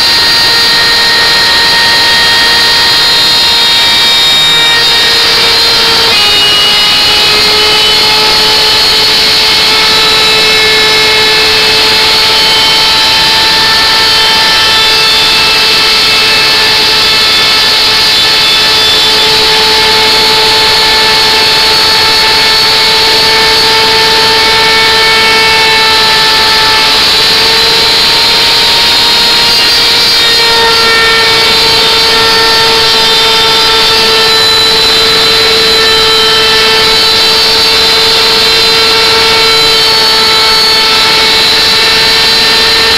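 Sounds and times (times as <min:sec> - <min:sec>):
wood router motor whine: 0:00.0 - 0:42.9.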